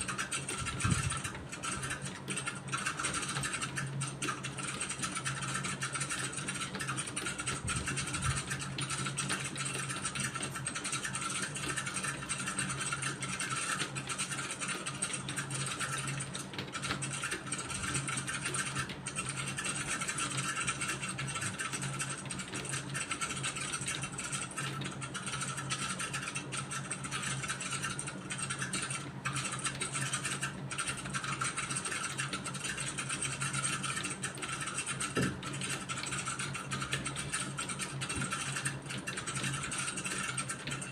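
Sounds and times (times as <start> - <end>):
steady low hum: 0.0 - 40.9
typing on computer keyboard: 0.0 - 40.9.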